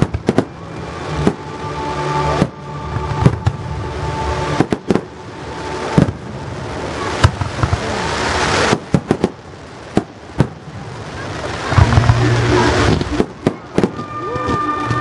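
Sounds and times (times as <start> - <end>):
fireworks bursting with sharp bangs: 0.0 - 15.0
rushing hiss: 0.0 - 15.0.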